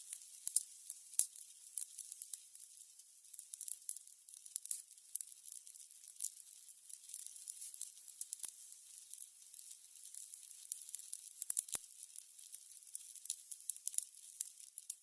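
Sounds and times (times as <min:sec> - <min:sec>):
candles crackling and popping: 0:00.0 - 0:15.0
faint sizzling hiss: 0:00.0 - 0:15.0.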